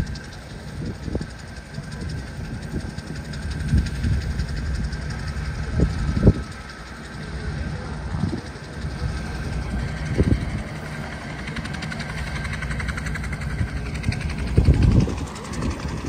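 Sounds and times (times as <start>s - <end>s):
engine running with fast buzz: 0.0s - 16.0s
low rumbles: 0.0s - 16.0s.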